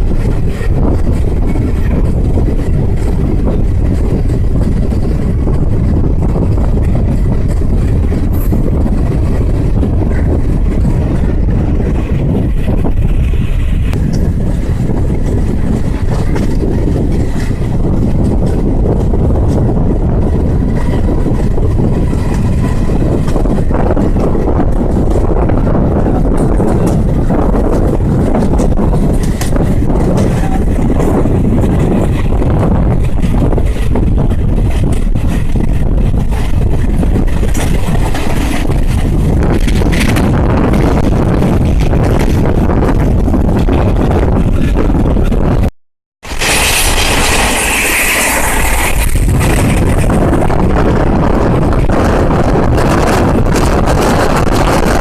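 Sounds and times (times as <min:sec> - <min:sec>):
train wheels rumbling on track: 0:00.0 - 0:55.0
wind buffeting microphone: 0:00.0 - 0:55.0.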